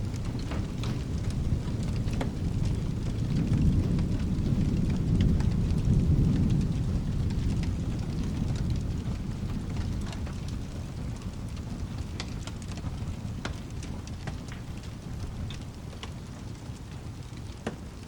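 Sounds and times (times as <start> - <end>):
low rolling thunder: 0.0 - 18.0
steady rain: 0.0 - 18.0.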